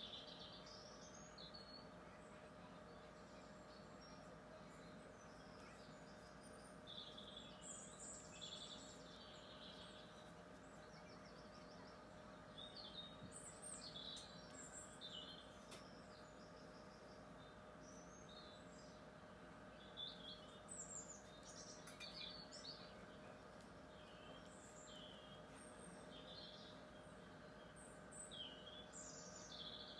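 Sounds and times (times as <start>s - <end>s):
low background hum: 0.0s - 29.9s
small birds chirping: 0.0s - 29.9s.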